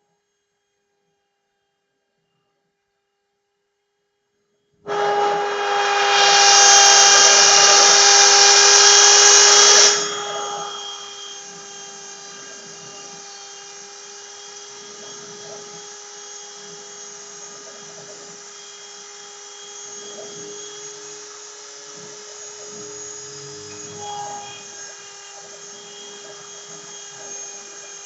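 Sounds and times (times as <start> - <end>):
cnc router whining: 4.9 - 28.0.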